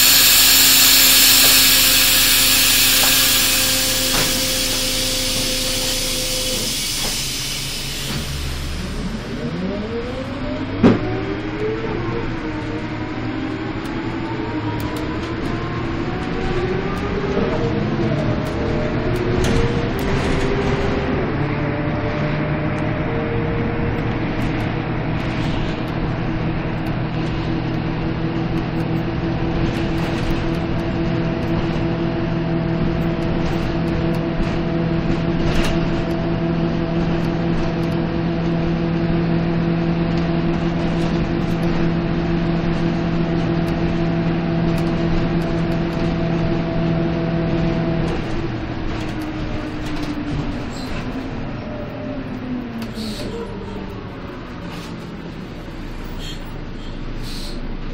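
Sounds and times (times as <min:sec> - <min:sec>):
bus diesel engine drone: 0:00.0 - 0:57.9
road noise: 0:00.0 - 0:57.9.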